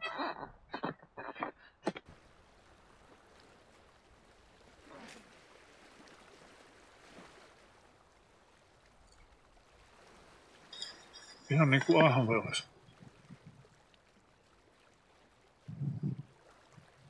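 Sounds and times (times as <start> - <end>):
water trickling and lapping: 0.0 - 17.0
soft splashes: 2.0 - 17.0.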